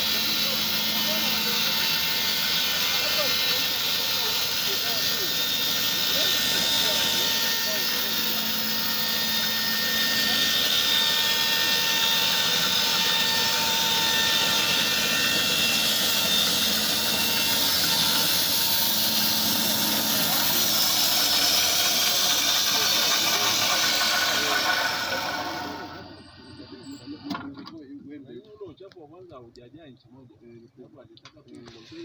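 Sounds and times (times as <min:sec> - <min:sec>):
band sawmill whining: 0:00.0 - 0:27.8.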